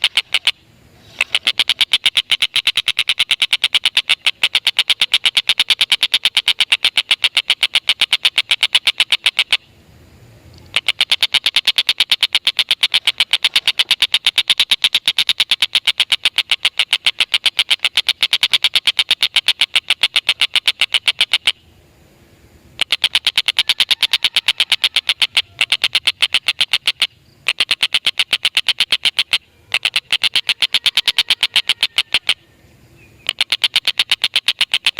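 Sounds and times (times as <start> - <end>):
kingfisher chattering call: 0.0 - 9.6, 10.7 - 21.6, 22.8 - 32.5, 33.2 - 34.9.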